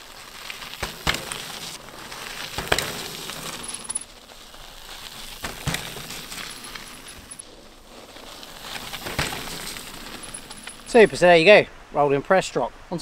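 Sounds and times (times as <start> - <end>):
bike tyres crunching over gravel: 0.0 - 11.7
bike wheels thumping down: 0.3 - 11.2.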